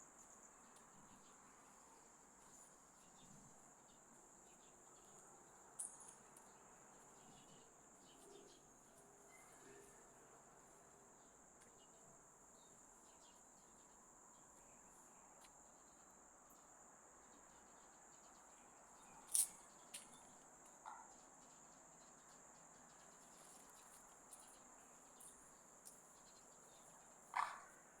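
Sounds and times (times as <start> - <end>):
crickets chirring: 0.1 - 28.0.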